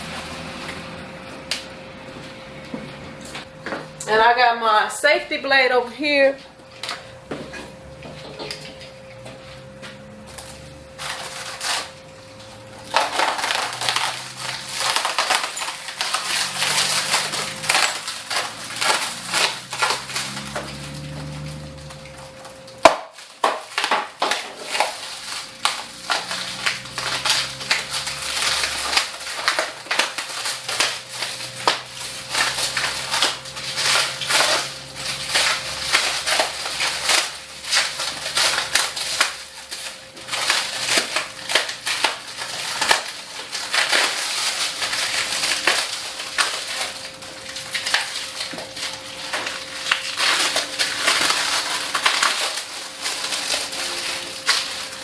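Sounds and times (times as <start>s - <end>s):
plastic wrap crinkling: 0.0s - 2.3s, 3.4s - 55.0s.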